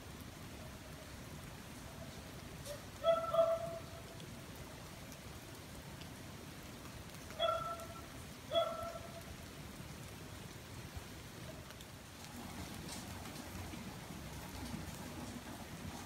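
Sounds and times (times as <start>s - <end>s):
rain on paving and foliage: 0.0s - 16.0s.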